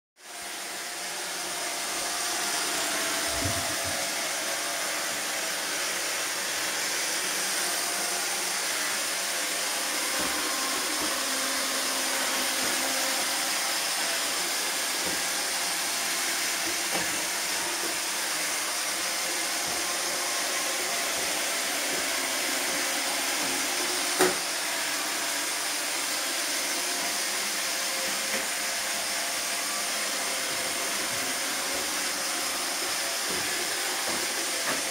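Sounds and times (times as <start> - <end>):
robot vacuum whirring: 0.2 - 34.9.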